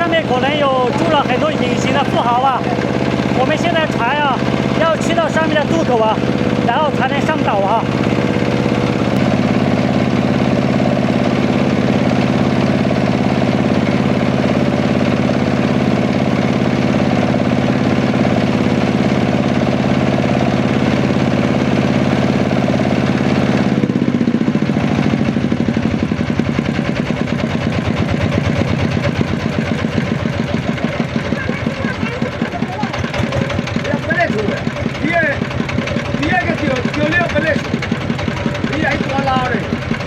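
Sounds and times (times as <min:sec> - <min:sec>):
small boat engine running: 0:00.0 - 0:40.0.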